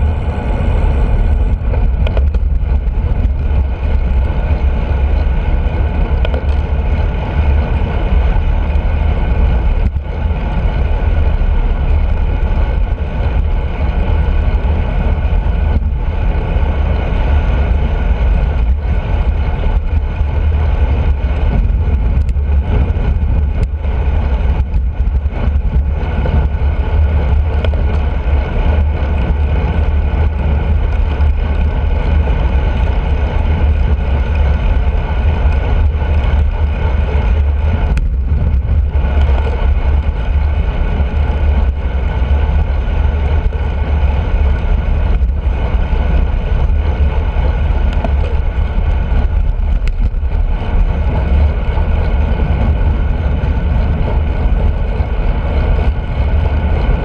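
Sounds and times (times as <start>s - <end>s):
deep road rumble: 0.0s - 57.0s
wind buffeting: 0.0s - 57.0s.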